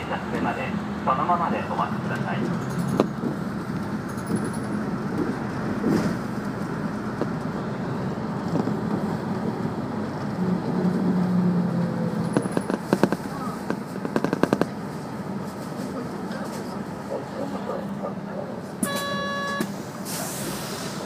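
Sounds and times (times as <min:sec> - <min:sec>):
bus engine running: 0:00.0 - 0:21.0
road noise: 0:00.0 - 0:21.0.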